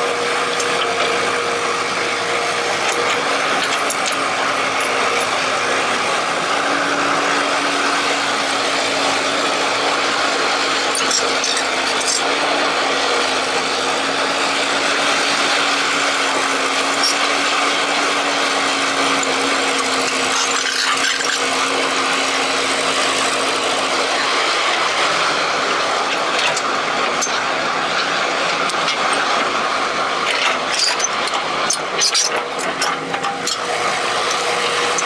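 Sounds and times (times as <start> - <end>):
excavator running: 0.0 - 35.0.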